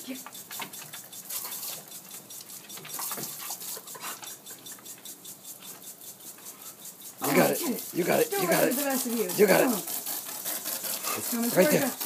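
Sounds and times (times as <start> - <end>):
lawn sprinkler ticking: 0.0 - 12.0
water spray hissing: 0.0 - 12.0.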